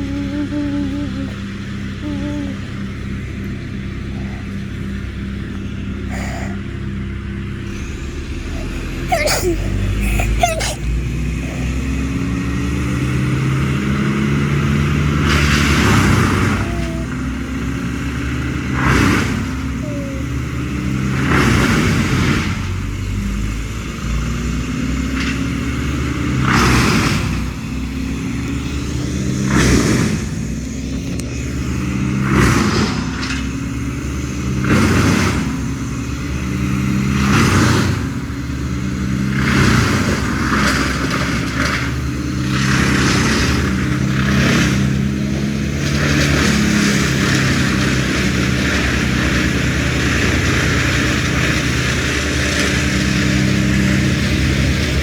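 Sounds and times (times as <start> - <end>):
engine running rising and falling: 0.0 - 55.0.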